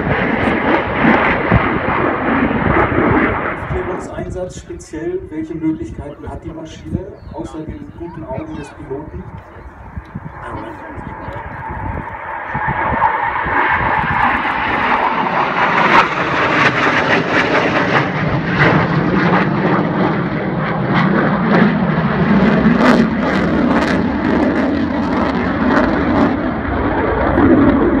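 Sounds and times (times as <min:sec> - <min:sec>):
jet flying past low overhead: 0:00.0 - 0:28.0
sharp crackles of jet noise: 0:00.0 - 0:28.0.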